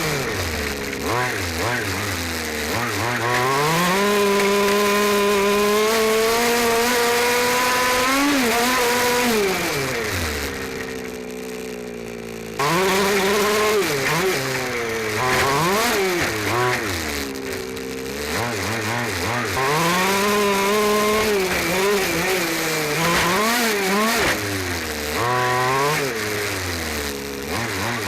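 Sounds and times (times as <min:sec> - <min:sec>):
two-stroke engine revving: 0:00.0 - 0:28.0
tyres on gravel: 0:00.0 - 0:28.0
wind: 0:00.0 - 0:28.0.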